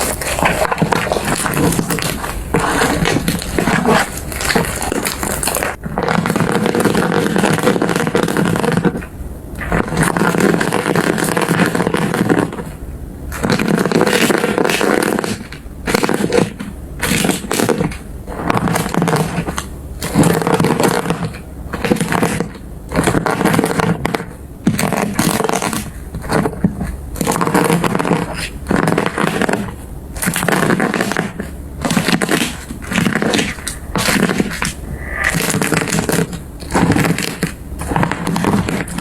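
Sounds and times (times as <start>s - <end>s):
slime squeezed crackling: 0.0s - 39.0s.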